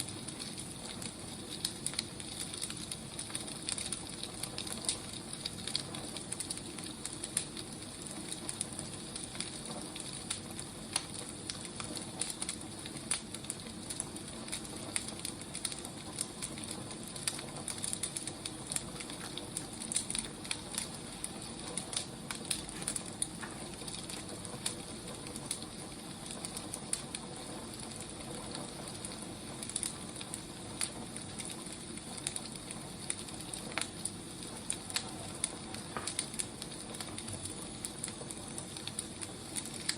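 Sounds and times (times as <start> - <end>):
firewood burning with crackles: 0.0 - 39.9.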